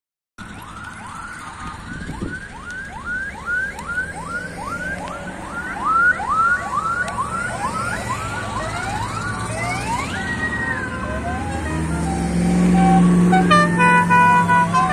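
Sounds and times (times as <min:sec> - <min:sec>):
car engines running low: 0:00.4 - 0:14.9
sirens whooping: 0:00.4 - 0:14.9.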